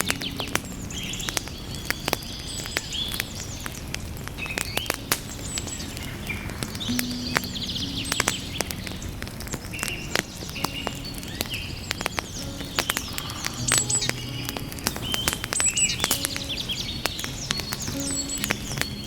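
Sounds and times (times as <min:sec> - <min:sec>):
birds chirping: 0:00.0 - 0:19.0
wood fire crackling: 0:00.0 - 0:19.0.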